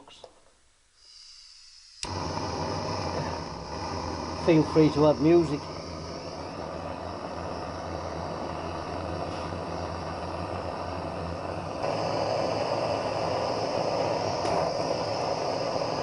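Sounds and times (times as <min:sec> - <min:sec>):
gas torch hissing: 0:01.0 - 0:16.0.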